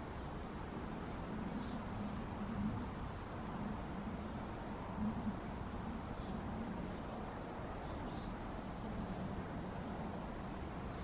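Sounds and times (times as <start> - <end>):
songbird chirping faintly: 0.0 - 11.0.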